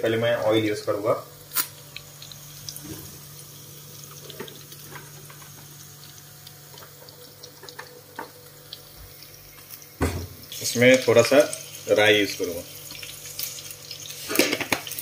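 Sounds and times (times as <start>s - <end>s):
gas burner hissing: 1.4s - 7.8s, 8.4s - 15.0s.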